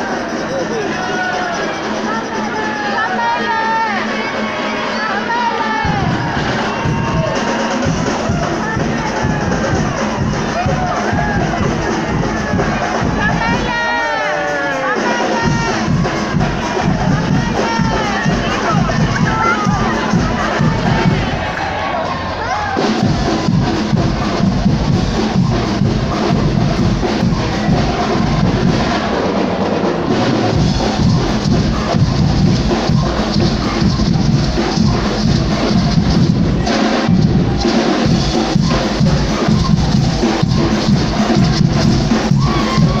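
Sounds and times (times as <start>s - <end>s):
band music: 0.0s - 43.0s
bass drum and snare beat: 5.8s - 43.0s.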